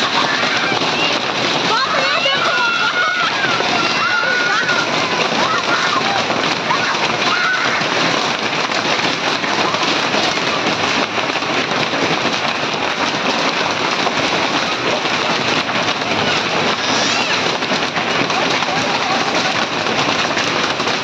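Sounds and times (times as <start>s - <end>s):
hail clattering on ground: 0.0s - 21.0s.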